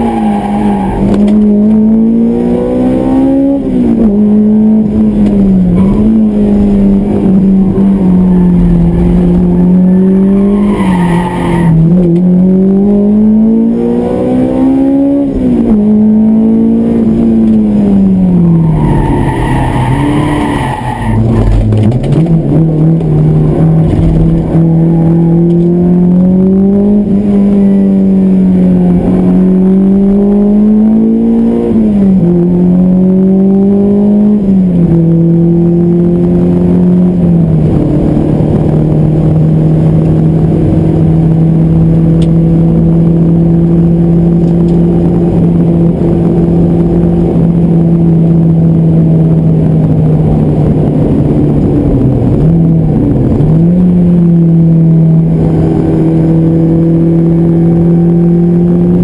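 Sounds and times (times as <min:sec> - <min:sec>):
high-revving car engine: 0:00.0 - 0:59.0.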